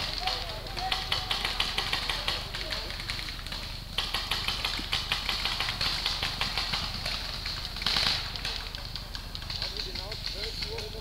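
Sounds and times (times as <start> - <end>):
toy guns firing rapidly: 0.0 - 11.0.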